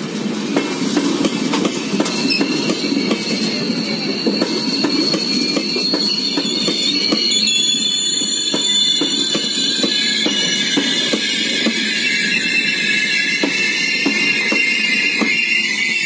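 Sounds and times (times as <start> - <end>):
train wheels clacking: 0.4 - 16.0
brake squeal: 2.0 - 16.0.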